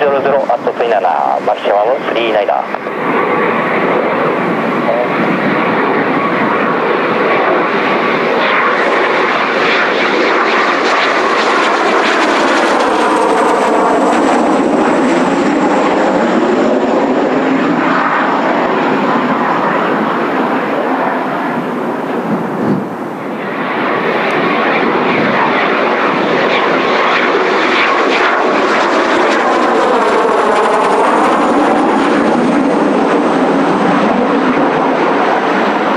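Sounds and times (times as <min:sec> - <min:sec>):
jet engines roaring with high whine: 0:00.0 - 0:35.9.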